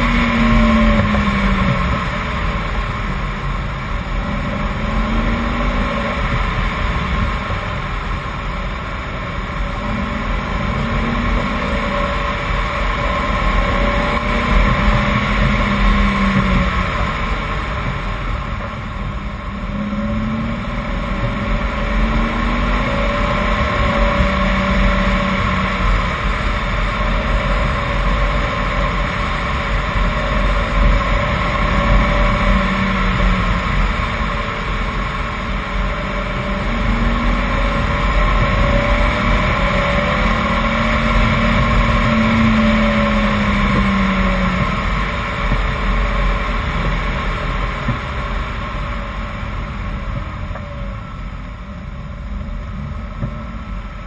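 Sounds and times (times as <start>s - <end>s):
car engine accelerating: 0.0s - 54.0s
road rumble: 0.0s - 54.0s
wind noise: 0.0s - 54.0s.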